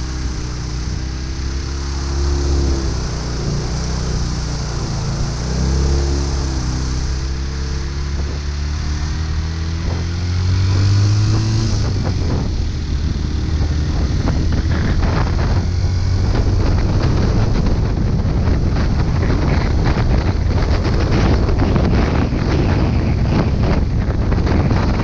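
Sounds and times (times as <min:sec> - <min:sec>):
motorcycle engine accelerating: 0:00.0 - 0:25.0
wind buffeting microphone: 0:00.0 - 0:25.0.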